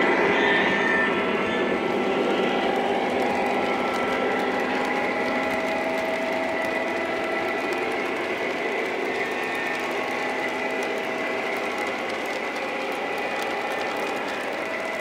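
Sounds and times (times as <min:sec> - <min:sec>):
train wheel rumble: 0:00.9 - 0:15.0
model train motor whine: 0:01.9 - 0:15.0.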